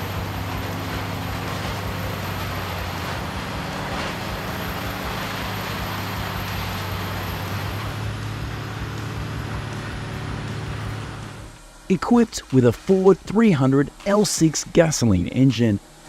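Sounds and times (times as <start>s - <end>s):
wood grinder running: 0.0s - 14.9s.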